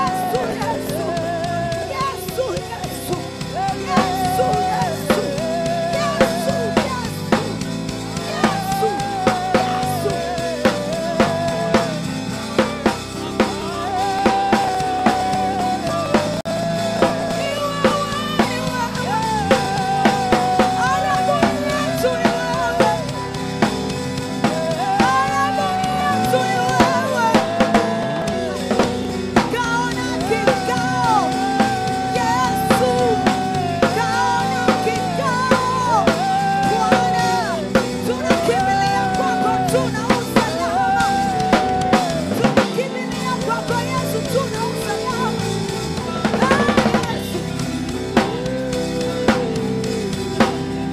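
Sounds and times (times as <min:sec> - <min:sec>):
drum kit with snare hits: 0:00.0 - 0:50.9
worship band music: 0:00.0 - 0:50.9.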